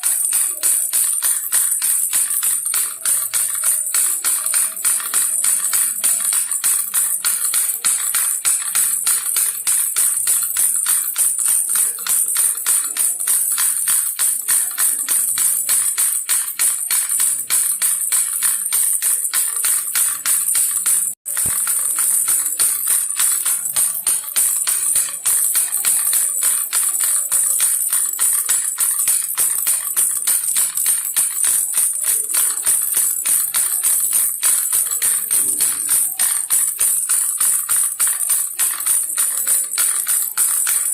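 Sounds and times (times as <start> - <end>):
baby rattle shaking: 0.0 - 40.9.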